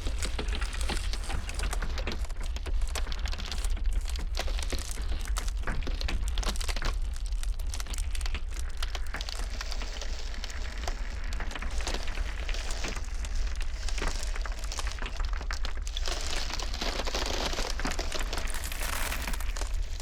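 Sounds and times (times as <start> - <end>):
ice cracking and snapping: 0.0 - 20.0.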